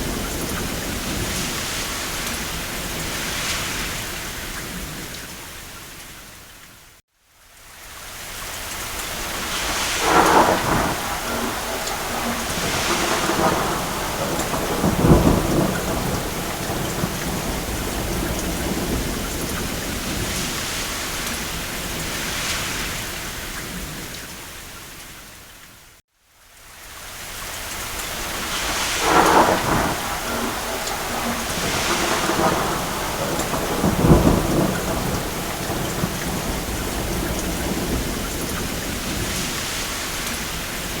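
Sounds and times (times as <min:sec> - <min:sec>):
distant thunder rolling: 0:00.0 - 0:05.2, 0:09.2 - 0:24.2, 0:28.2 - 0:41.0
heavy rain on a roof: 0:00.0 - 0:41.0.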